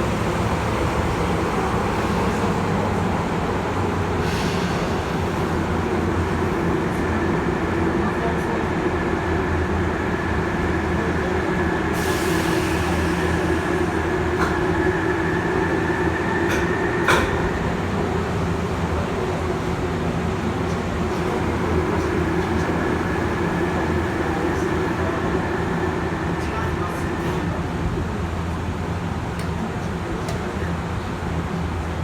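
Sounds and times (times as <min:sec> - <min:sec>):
train wheels and motors rumbling: 0:00.0 - 0:32.0.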